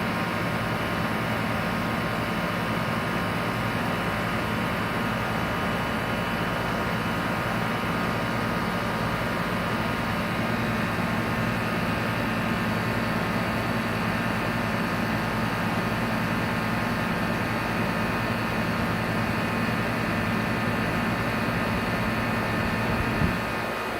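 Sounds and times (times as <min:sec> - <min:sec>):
compressor unit humming: 0:00.0 - 0:23.9
fan whirring: 0:00.0 - 0:23.9.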